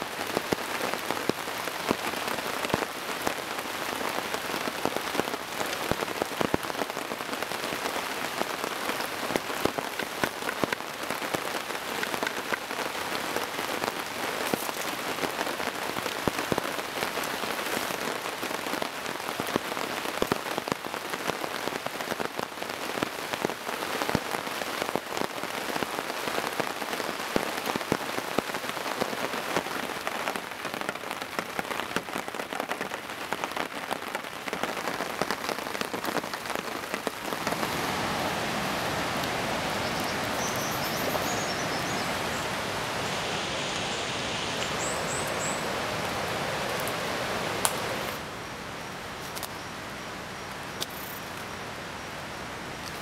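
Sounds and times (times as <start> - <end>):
heavy rain hiss: 0.0 - 53.0
raindrops tapping on surfaces: 0.1 - 41.8, 43.7 - 45.6, 47.6 - 48.2.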